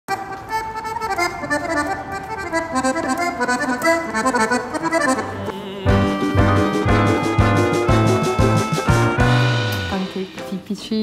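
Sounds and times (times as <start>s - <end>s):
accordion melody: 0.1s - 10.6s.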